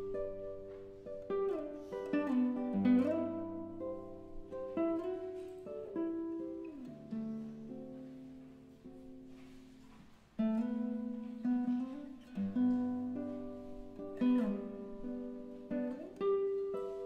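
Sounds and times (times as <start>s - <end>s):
classical guitar playing: 0.0s - 17.0s.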